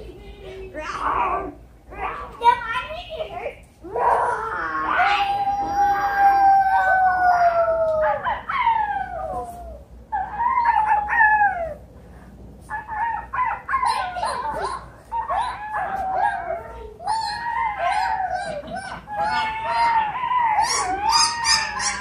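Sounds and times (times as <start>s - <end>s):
children yelping: 0.0s - 11.9s, 12.7s - 22.0s
children howling: 0.6s - 2.4s, 3.8s - 11.9s, 12.7s - 22.0s.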